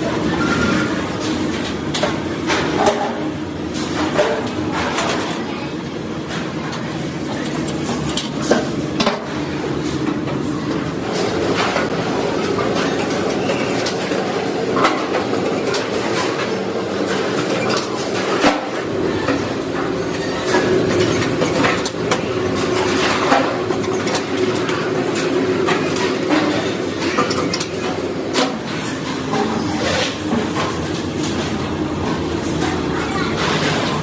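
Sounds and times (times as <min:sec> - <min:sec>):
factory machinery hum: 0:00.0 - 0:34.0.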